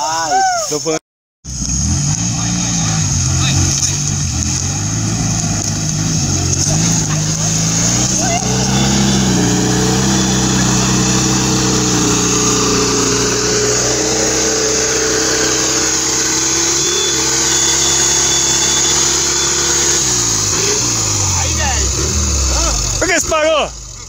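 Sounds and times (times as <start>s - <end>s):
car engine revving: 1.5s - 24.0s
wheels spinning in mud: 1.5s - 24.0s.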